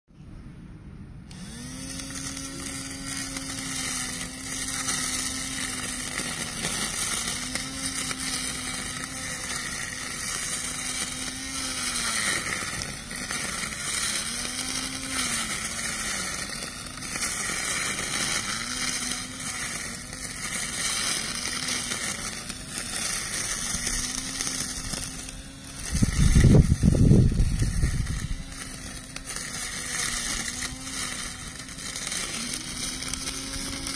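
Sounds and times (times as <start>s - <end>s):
string trimmer motor whining: 1.2s - 33.9s
trimmer line cutting grass: 1.2s - 33.9s.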